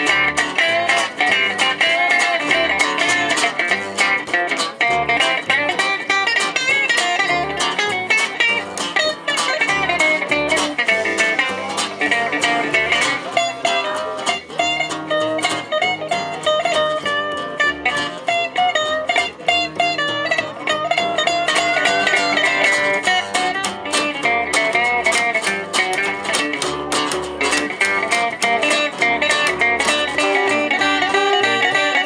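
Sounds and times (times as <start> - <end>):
gypsy jazz band playing: 0.0 - 32.0
plucked acoustic guitar: 0.0 - 32.0.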